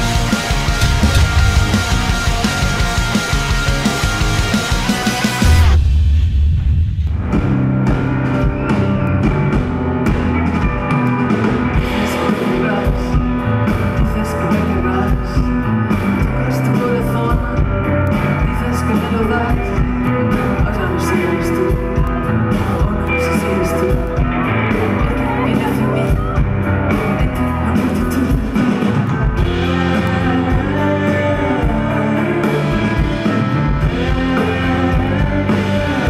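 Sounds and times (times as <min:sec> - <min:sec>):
keyboards: 0:00.0 - 0:05.9, 0:07.4 - 0:36.0
live rock band playing: 0:00.0 - 0:36.0.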